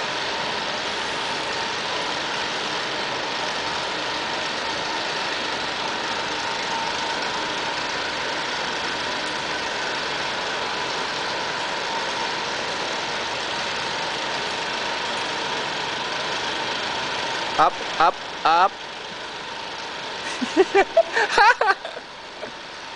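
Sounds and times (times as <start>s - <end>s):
machine drone: 0.0s - 22.9s.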